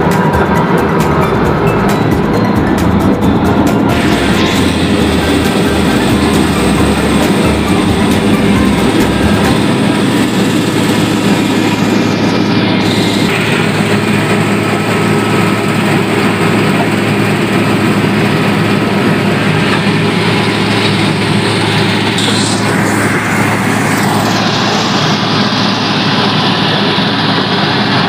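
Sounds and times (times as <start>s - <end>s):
road grader engine running: 0.0s - 28.0s.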